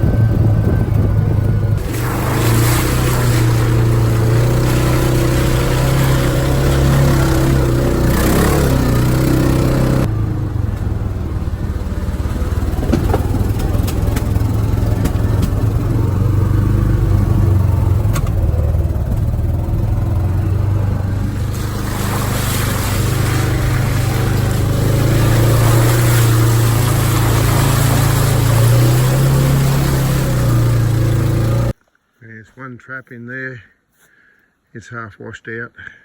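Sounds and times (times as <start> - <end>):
road noise: 0.0 - 31.8
vehicle engine running: 0.0 - 31.8.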